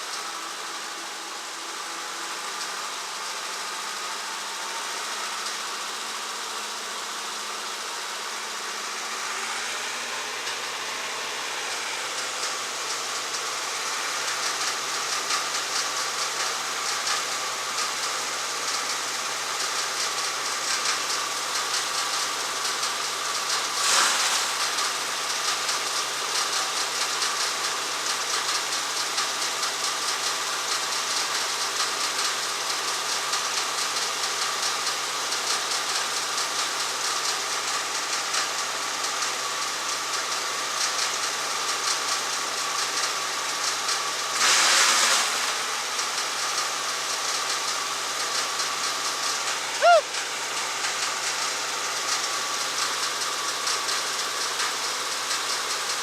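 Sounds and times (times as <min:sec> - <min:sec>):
wood chipper engine running: 0:00.0 - 0:56.0.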